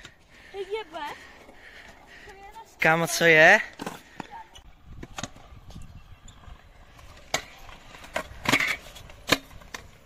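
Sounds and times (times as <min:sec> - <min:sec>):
scooter clacking: 0:00.0 - 0:10.0
scooter wheels rolling rumble: 0:00.0 - 0:10.0.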